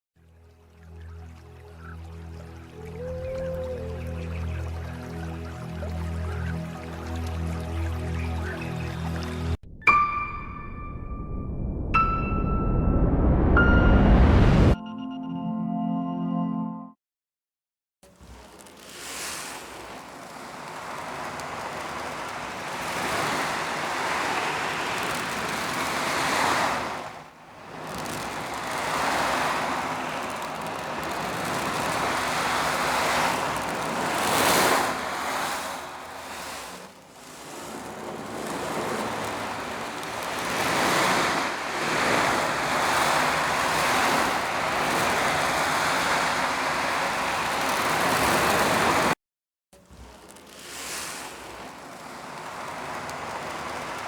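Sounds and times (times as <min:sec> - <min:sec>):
imitated sea waves rushing: 0:01.8 - 0:10.1, 0:18.1 - 0:49.2, 0:49.9 - 0:54.0.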